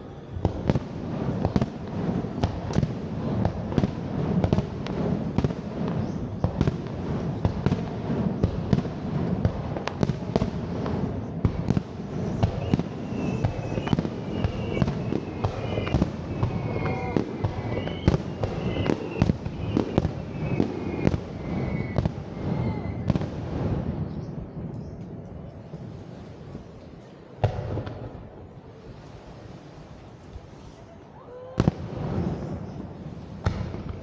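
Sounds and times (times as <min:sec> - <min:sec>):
fireworks bangs: 0:00.0 - 0:26.7, 0:27.4 - 0:28.6, 0:31.2 - 0:34.0
fireworks rumble and crackle: 0:00.0 - 0:34.0.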